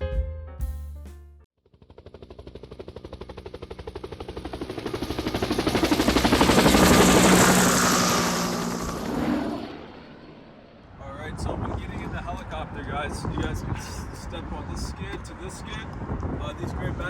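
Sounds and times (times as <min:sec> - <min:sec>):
helicopter rotor chopping: 0:01.6 - 0:17.0.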